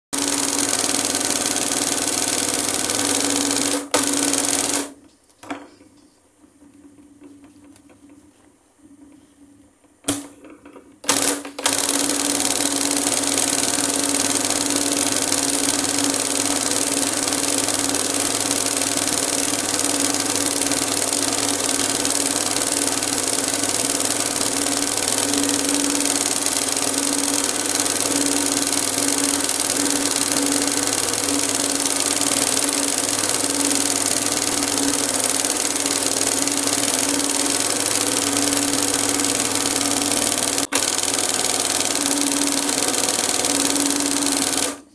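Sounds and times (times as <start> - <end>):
embroidery sewing machine stitching: 0.2 - 5.0, 11.0 - 44.9.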